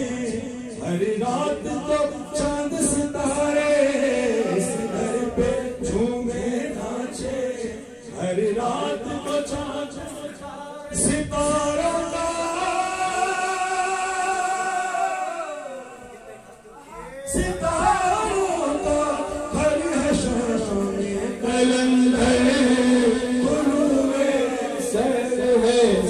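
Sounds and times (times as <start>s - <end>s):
men singing hymn unaccompanied: 0.0s - 15.2s, 17.3s - 26.0s.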